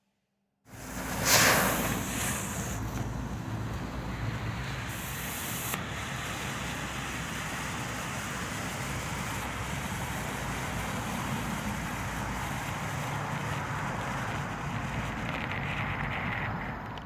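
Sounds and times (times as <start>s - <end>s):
sharp high hiss: 0.7s - 15.2s
smoke ball hissing: 0.7s - 16.9s.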